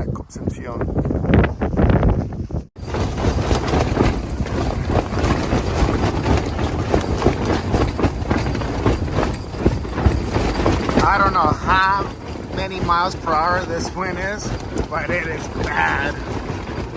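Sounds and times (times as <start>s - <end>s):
strong wind rushing: 0.0s - 16.9s
tent fabric flapping: 1.8s - 16.9s.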